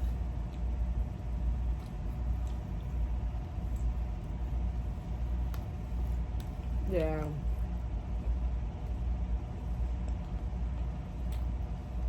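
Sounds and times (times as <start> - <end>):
faint even hum: 0.0 - 12.0.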